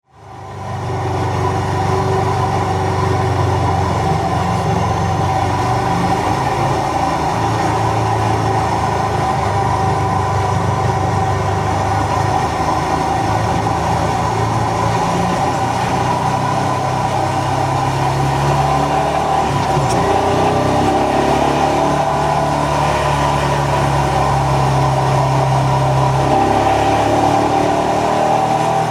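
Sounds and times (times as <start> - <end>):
motorcycle engine revving: 0.8 - 28.9.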